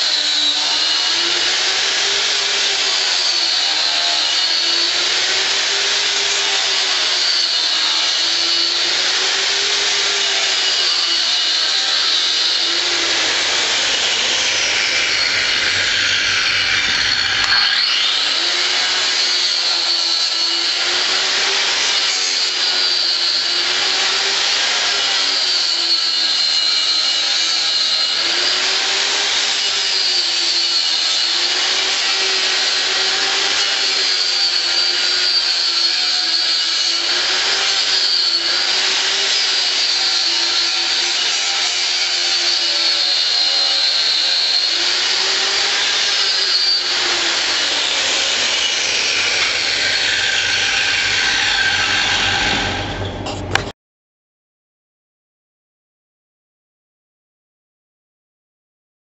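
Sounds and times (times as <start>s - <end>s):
angle grinder cutting shoe: 0.0s - 53.7s.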